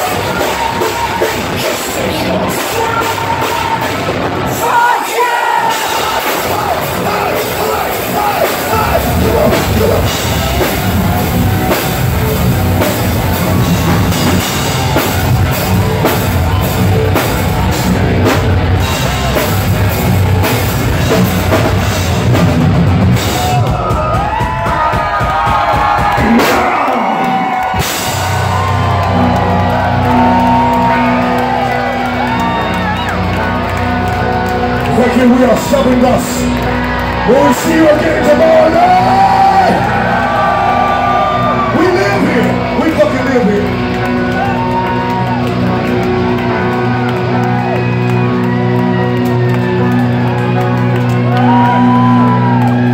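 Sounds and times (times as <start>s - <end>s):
crowd cheering and whooping: 0.0s - 52.9s.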